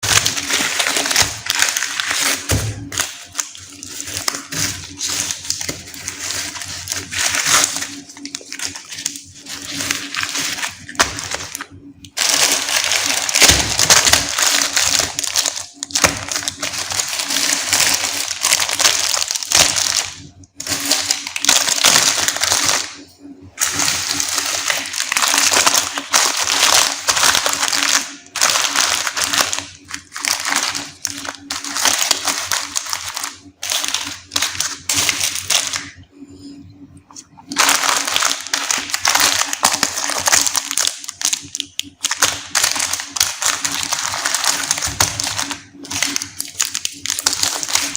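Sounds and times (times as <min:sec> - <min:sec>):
plastic wrappers crinkling: 0:00.0 - 0:23.0, 0:23.6 - 0:36.0, 0:37.2 - 0:47.9.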